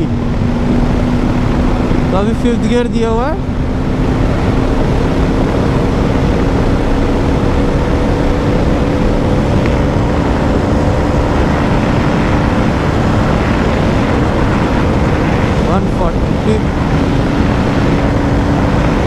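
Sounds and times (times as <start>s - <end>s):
motorcycle engine droning: 0.0s - 19.0s
wind rush: 0.0s - 19.0s.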